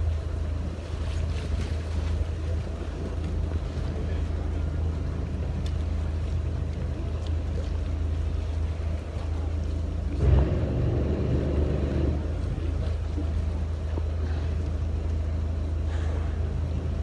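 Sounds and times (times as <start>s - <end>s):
boat engine humming: 0.0s - 17.0s
wind and water rushing: 0.0s - 17.0s.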